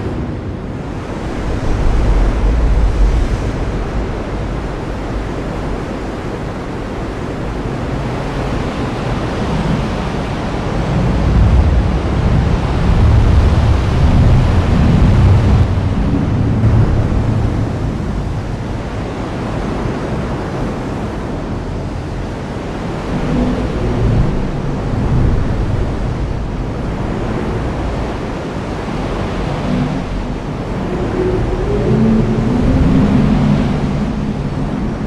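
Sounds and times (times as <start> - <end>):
low rumbles: 0.0 - 7.8, 10.6 - 19.8, 21.1 - 35.0.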